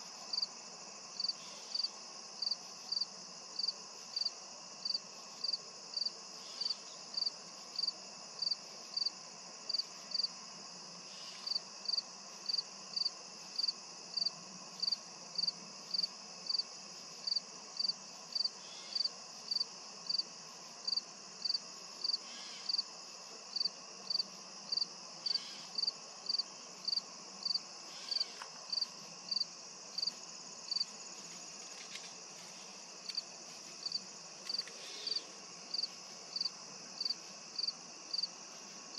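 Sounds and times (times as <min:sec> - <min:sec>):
high insect drone: 0:00.0 - 0:38.9
insect chirping: 0:00.0 - 0:38.9.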